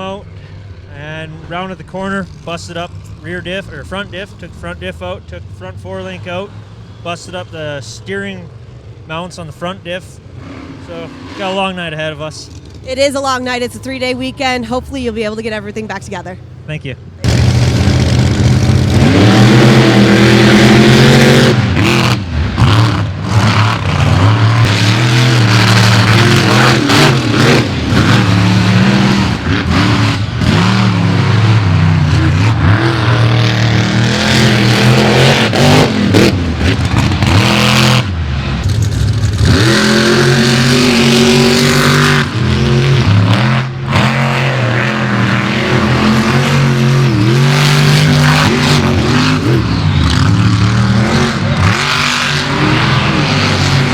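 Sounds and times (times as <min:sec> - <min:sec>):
monster truck engines revving: 0:00.0 - 0:53.9.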